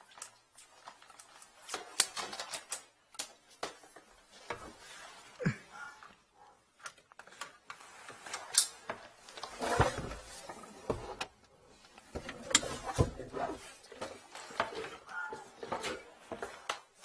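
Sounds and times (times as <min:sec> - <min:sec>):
hose and tubing being handled: 0:00.0 - 0:17.0.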